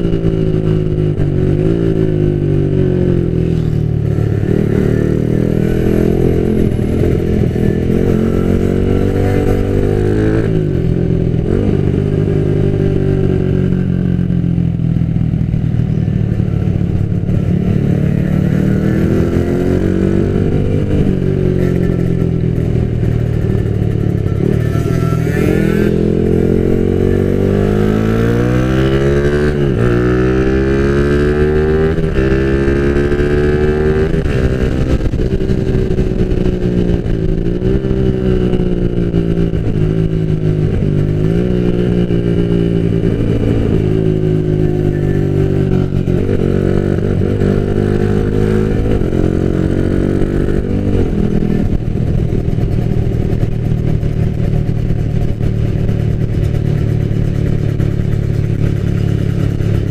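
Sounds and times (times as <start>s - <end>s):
motorcycle engine accelerating: 0.0s - 59.9s
wind and road rush: 0.0s - 59.9s.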